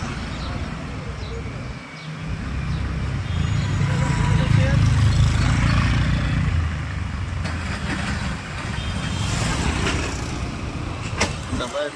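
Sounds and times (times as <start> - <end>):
road noise: 0.0 - 11.9
vehicle engine rumble: 0.0 - 11.9.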